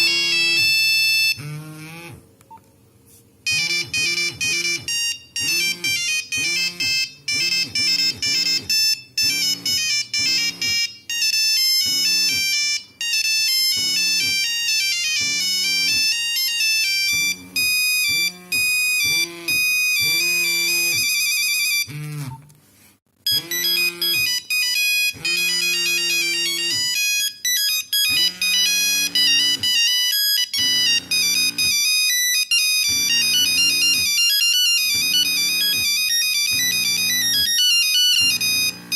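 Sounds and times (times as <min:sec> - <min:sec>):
mobile phone ringtone melody: 0:00.0 - 0:01.9, 0:03.5 - 0:22.2, 0:23.3 - 0:38.9.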